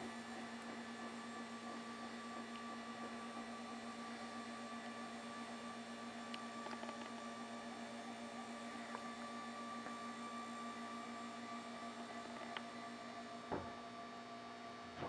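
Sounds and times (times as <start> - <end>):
tv lift motor humming: 0.0 - 15.0.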